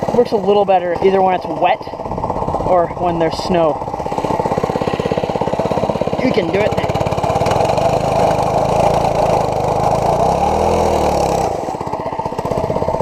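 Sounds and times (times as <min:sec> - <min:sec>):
small motorbike engine revving: 0:00.0 - 0:13.0.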